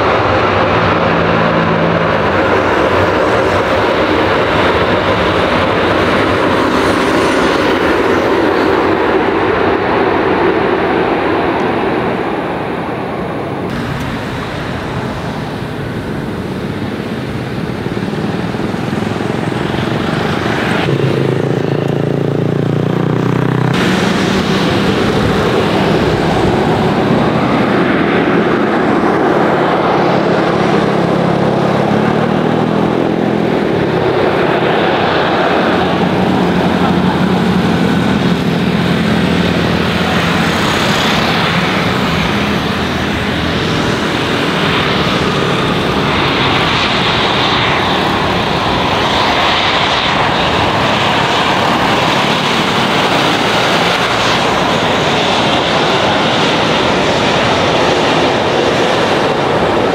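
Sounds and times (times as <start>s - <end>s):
jet engines running: 0.0s - 59.9s
low engine tone rising: 0.0s - 59.9s
road traffic: 0.0s - 59.9s.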